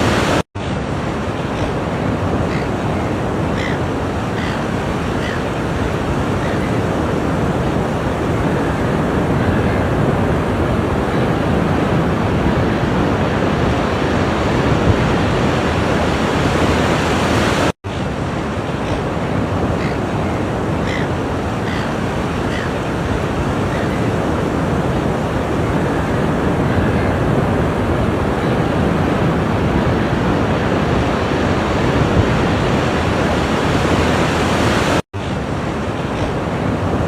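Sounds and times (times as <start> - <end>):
ocean surf washing ashore: 0.0 - 37.0
wind on microphone: 0.0 - 37.0.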